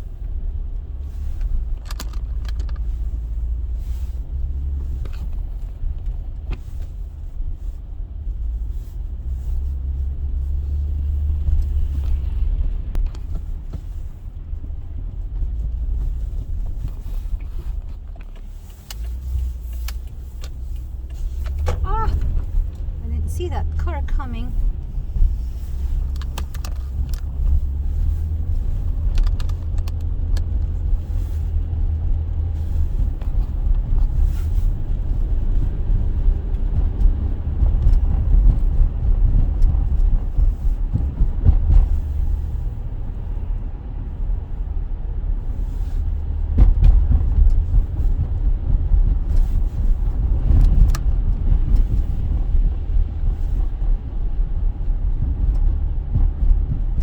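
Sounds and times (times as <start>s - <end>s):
car cabin rumble: 0.0s - 57.0s.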